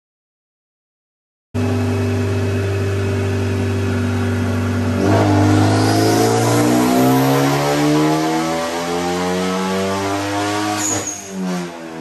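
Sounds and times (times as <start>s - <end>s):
car engine revving on dyno: 1.6s - 12.0s.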